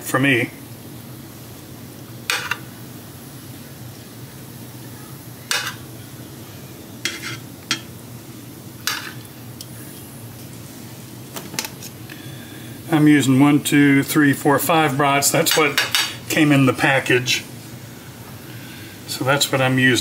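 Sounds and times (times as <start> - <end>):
low steady background noise: 0.0 - 20.0.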